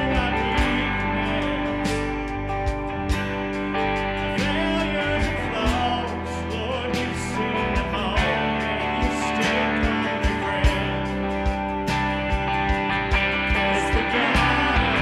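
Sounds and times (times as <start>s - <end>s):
worship song with strummed guitars: 0.0s - 15.0s.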